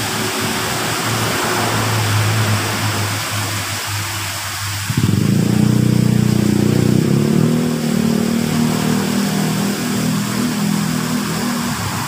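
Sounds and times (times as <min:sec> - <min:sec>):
engine pulsing hum: 0:00.0 - 0:12.0
small waterfall splashing: 0:00.0 - 0:12.0.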